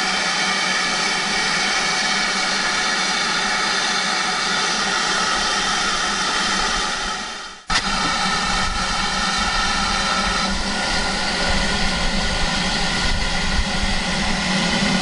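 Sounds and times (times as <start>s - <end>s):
steam hissing from safety valves: 0.0s - 15.0s.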